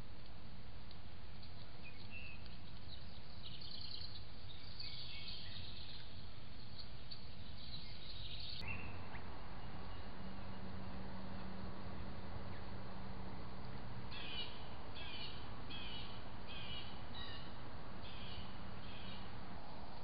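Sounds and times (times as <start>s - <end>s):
faint steady hum: 0.0s - 20.0s
small birds chirping: 1.3s - 20.0s.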